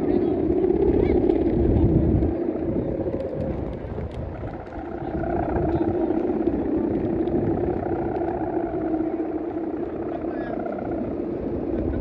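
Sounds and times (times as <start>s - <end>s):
kite hummer droning: 0.0s - 12.0s
wind rumbling on microphone: 0.0s - 12.0s.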